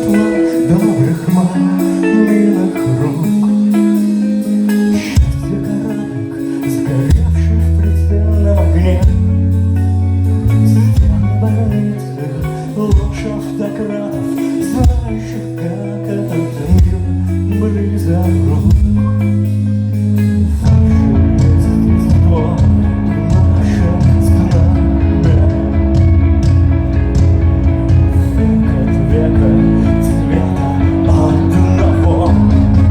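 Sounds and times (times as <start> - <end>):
live band playing: 0.0 - 32.9.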